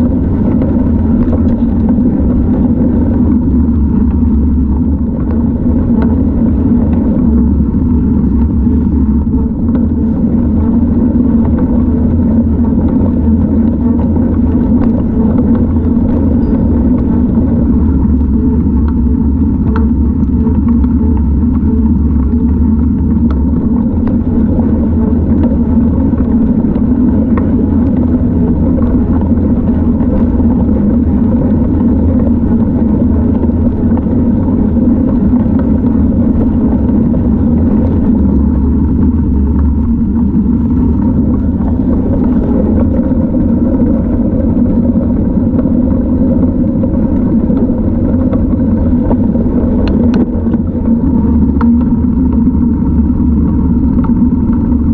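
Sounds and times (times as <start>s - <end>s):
rolling road noise: 0.0s - 54.9s
wind on microphone: 0.0s - 54.9s.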